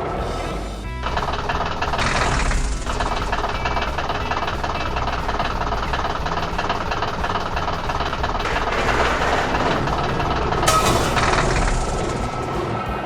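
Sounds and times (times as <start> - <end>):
background music: 0.0 - 13.0
heavy vehicle engine running: 0.6 - 13.0.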